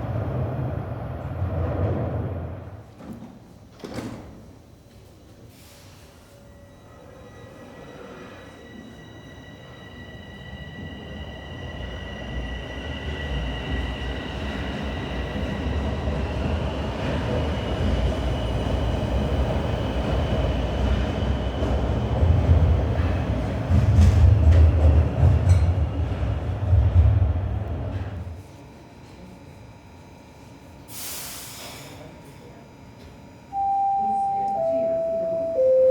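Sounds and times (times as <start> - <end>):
subway train rumble: 0.0 - 35.9.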